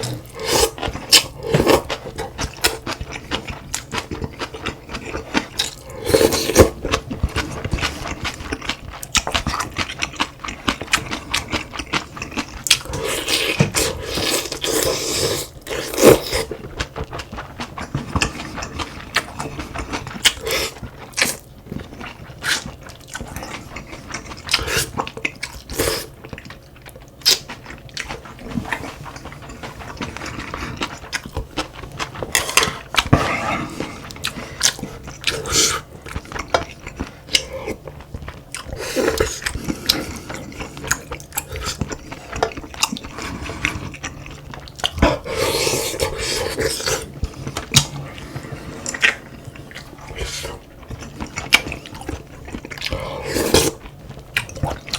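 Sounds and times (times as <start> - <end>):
person chewing: 0.0 - 54.9.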